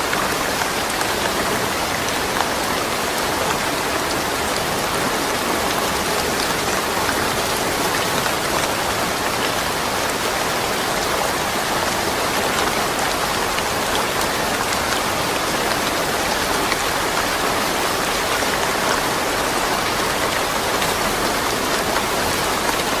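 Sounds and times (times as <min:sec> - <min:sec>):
patter of raindrops: 0:00.0 - 0:23.0
steady rain falling: 0:00.0 - 0:23.0.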